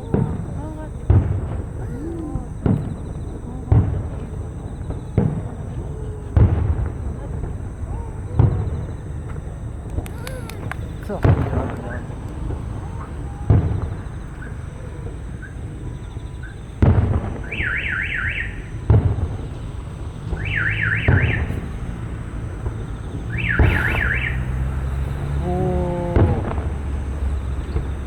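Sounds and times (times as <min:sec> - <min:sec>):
fireworks booming: 0:00.0 - 0:28.0.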